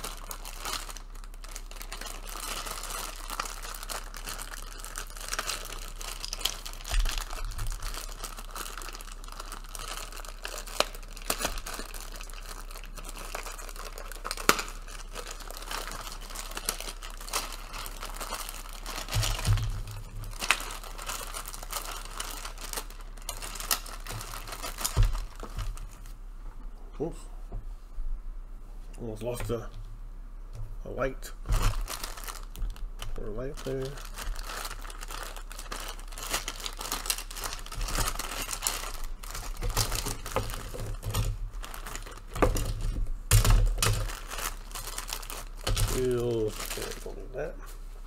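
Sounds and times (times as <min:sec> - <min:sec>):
plastic bag crinkling: 0:00.0 - 0:26.2, 0:31.4 - 0:47.4.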